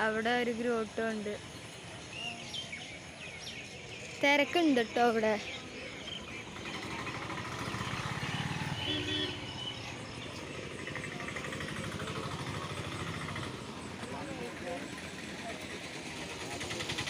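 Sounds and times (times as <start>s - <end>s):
street traffic: 0.0s - 17.0s
vehicle engine running close by: 0.0s - 17.0s.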